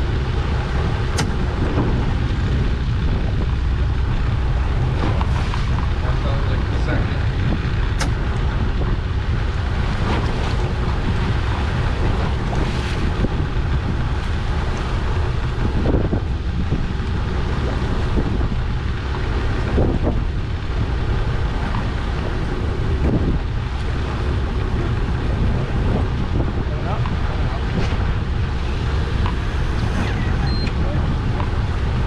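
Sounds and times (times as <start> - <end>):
low rumble of boat and water: 0.0 - 32.0
wind buffeting microphone: 0.0 - 32.0.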